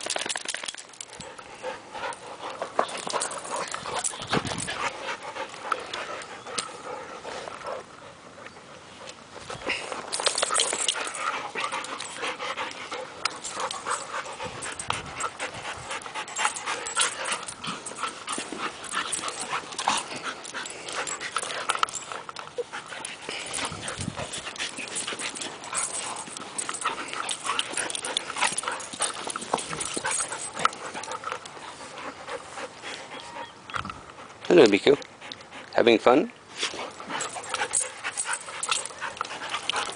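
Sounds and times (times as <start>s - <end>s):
dogs play-fighting: 0.0s - 39.9s.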